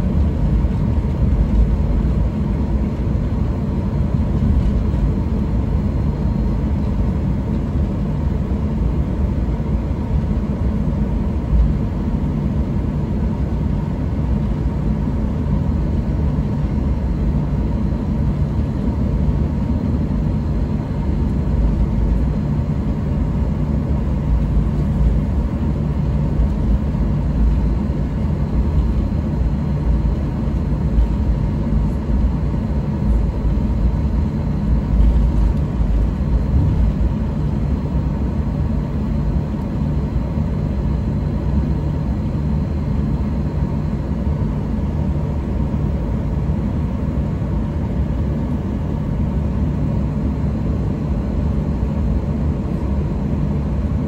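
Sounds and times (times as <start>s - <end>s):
cabin air supply: 0.0s - 54.0s
jet engines idling: 0.0s - 54.0s.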